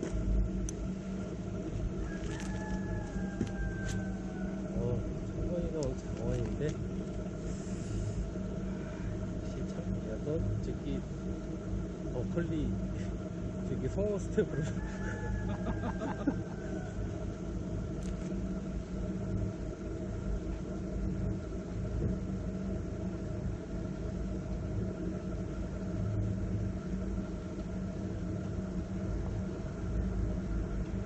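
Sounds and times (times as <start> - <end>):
low mechanical rumble: 0.0 - 31.0.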